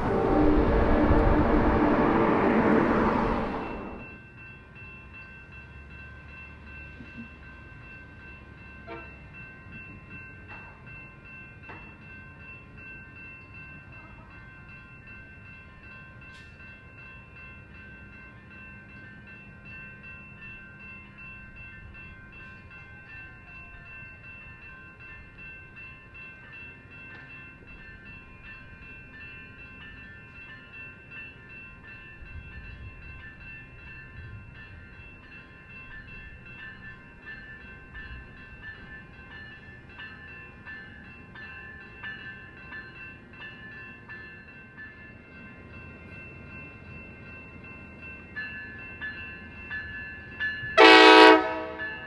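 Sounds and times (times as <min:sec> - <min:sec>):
steady rail sound: 0:00.0 - 0:52.0
train passing close by: 0:00.0 - 0:52.0.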